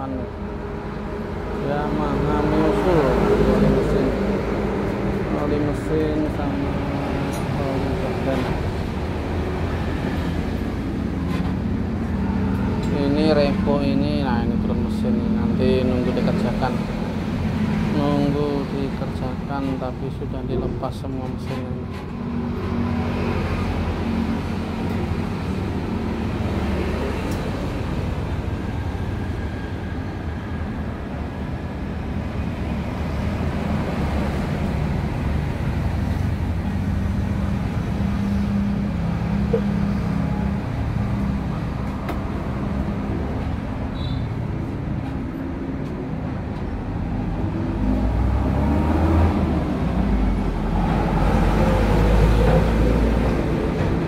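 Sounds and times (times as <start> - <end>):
low rumble of traffic: 0.0 - 54.0.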